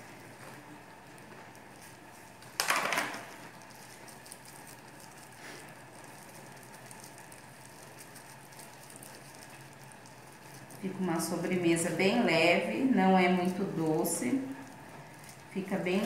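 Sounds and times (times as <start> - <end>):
thin plastic crinkling: 0.0 - 16.0.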